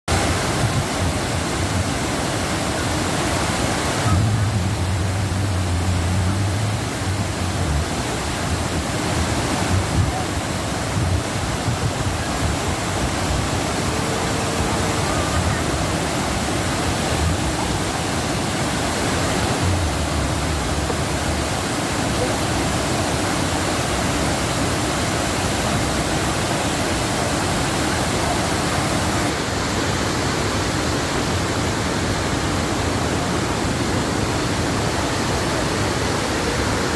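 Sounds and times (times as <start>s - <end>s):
waterfall pouring: 0.1s - 36.9s.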